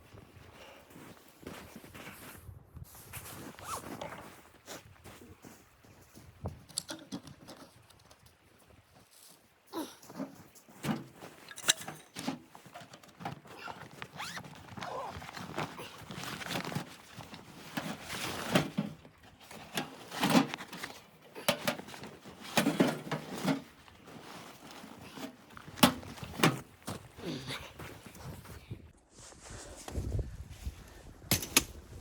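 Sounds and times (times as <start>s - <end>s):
rustling and handling noises: 0.0s - 31.6s.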